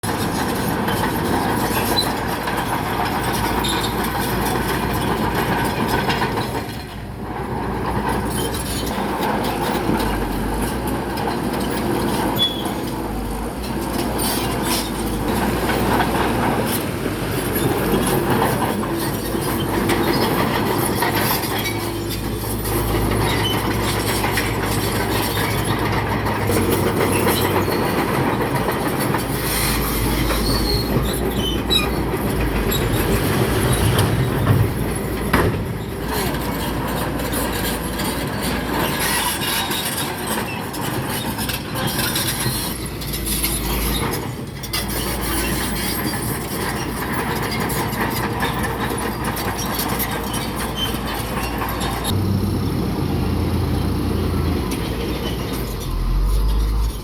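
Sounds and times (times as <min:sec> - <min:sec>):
bulldozer engine: 0:00.0 - 0:57.0
bulldozer tracks clanking and squealing: 0:00.0 - 0:57.0.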